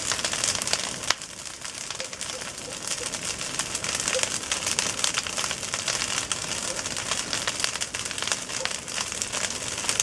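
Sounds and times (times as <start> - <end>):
bonfire crackling: 0.0 - 10.0.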